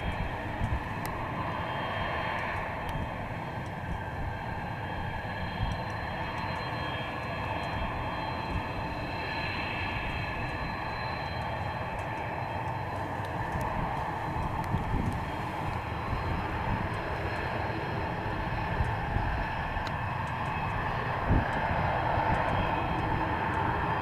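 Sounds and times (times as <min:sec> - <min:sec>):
jet engines rumbling and whining: 0:00.0 - 0:24.0.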